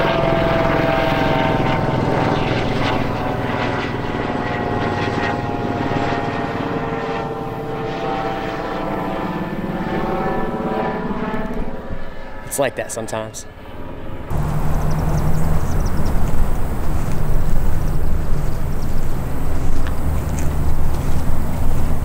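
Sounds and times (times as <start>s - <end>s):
helicopter engine and rotor drone: 0.0s - 22.0s.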